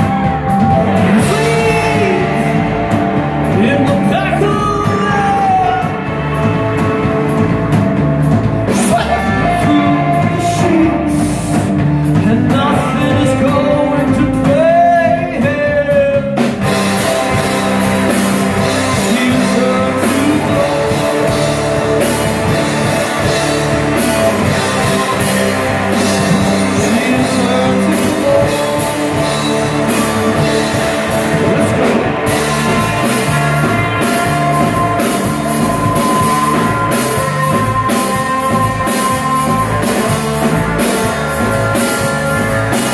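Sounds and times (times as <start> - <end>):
rock band playing: 0.0 - 42.9
man singing: 0.1 - 6.9, 8.7 - 17.4, 18.0 - 42.9.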